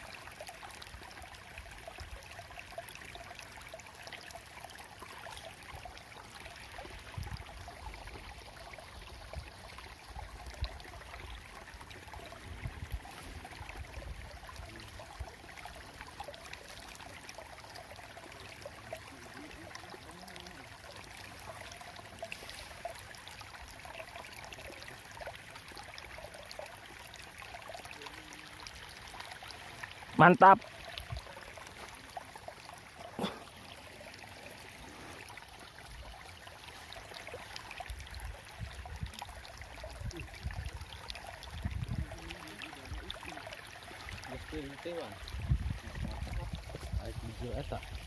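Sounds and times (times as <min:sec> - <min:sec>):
water trickling in a ditch: 0:00.0 - 0:48.0.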